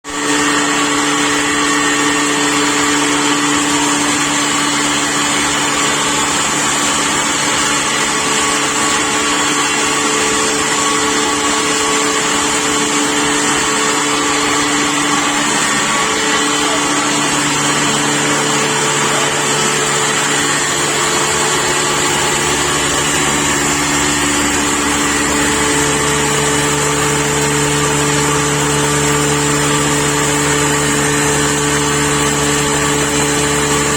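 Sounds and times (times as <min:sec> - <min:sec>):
pulveriser machine humming: 0:00.1 - 0:33.9.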